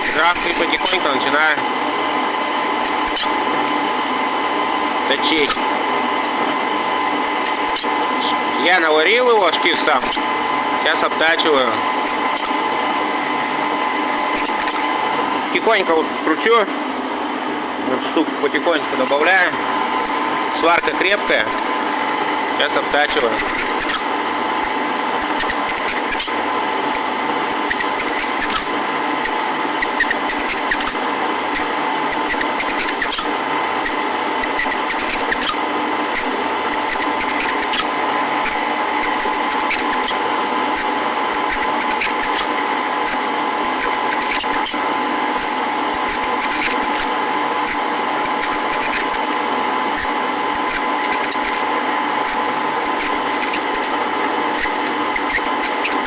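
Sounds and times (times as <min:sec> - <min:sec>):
metal lathe humming: 0:00.0 - 0:56.0.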